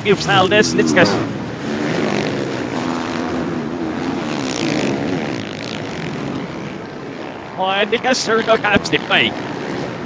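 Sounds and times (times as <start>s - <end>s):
motocross bike engines reversed: 0.0s - 10.0s.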